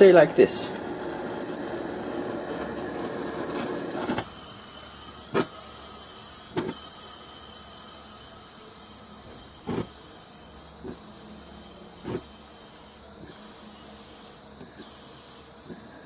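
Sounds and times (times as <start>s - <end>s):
gas torch hissing: 0.0s - 16.0s.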